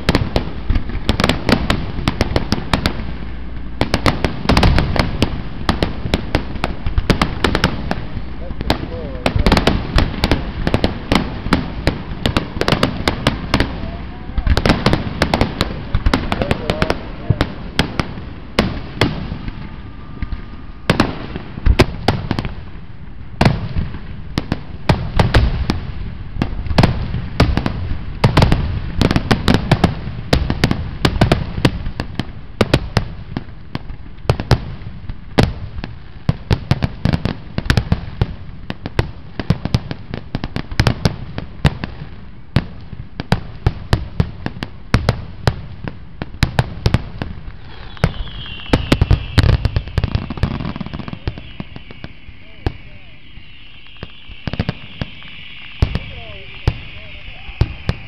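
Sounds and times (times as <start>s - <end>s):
fireworks sharp bangs: 0.0s - 58.0s.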